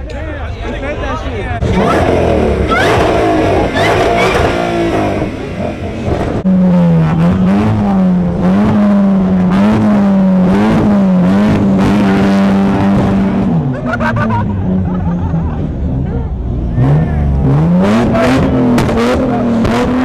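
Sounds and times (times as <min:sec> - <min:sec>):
car engine revving hard: 0:01.6 - 0:14.3, 0:16.5 - 0:20.0.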